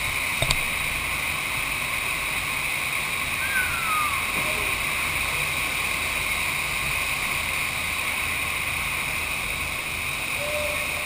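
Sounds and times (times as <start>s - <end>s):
rushing water with low rumble: 0.0s - 11.0s.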